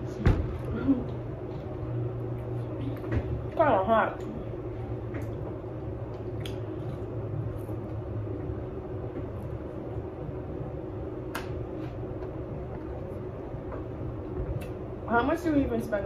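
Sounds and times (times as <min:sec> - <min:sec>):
low room rumble and hum: 0:00.0 - 0:16.0.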